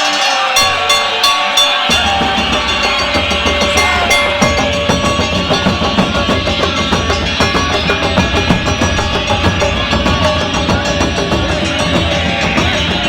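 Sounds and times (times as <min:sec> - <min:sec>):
instruments playing sustained melody: 0:00.0 - 0:13.0
taiko drums beating fast rhythm: 0:00.6 - 0:13.0.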